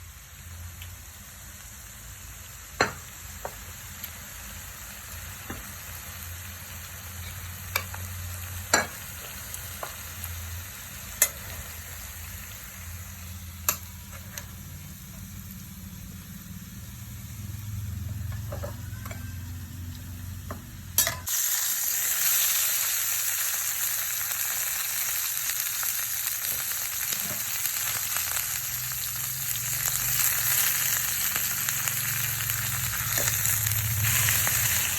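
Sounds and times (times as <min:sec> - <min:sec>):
food sizzling: 0:00.0 - 0:34.9.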